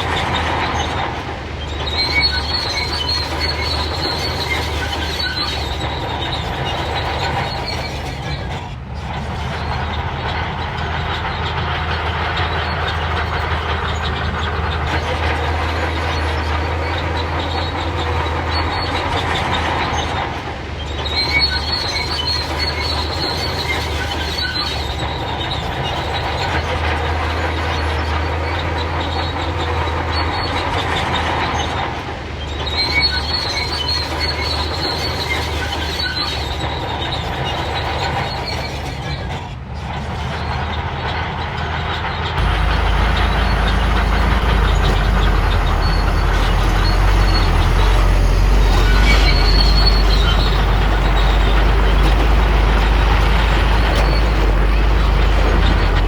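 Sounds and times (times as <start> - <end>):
bulldozer diesel engine running: 0.0 - 56.0
steel tracks squealing and clanking: 0.0 - 56.0.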